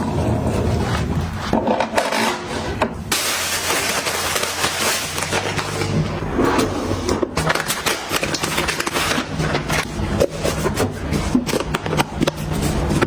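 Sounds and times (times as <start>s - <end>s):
kitchen items clicking and knocking: 1.0s - 13.0s.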